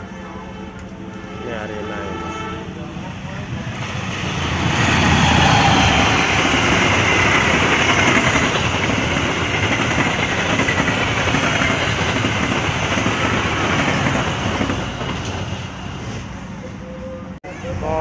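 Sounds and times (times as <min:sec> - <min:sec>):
train passing at speed: 0:00.0 - 0:18.0
wheels rushing on rails: 0:02.8 - 0:17.2.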